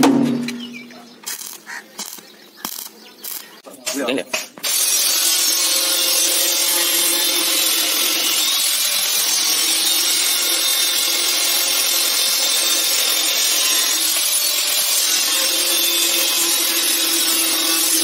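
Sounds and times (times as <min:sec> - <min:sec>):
angle grinder cutting steel: 0:01.3 - 0:03.5, 0:04.6 - 0:18.0.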